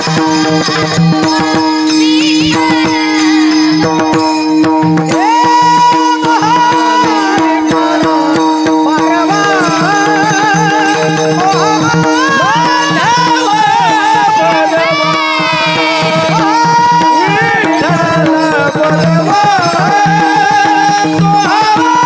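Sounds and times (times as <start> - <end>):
woman singing: 0.0 - 4.2, 5.1 - 22.0.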